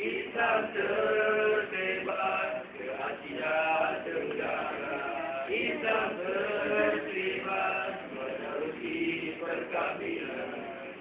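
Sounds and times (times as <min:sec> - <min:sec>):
boys singing in unison: 0:00.0 - 0:11.0.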